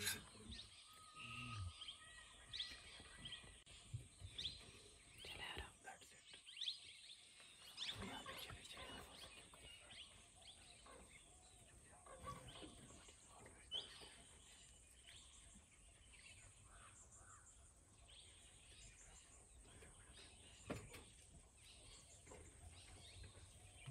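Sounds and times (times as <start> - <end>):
soft bird chirps: 0.0 - 23.9.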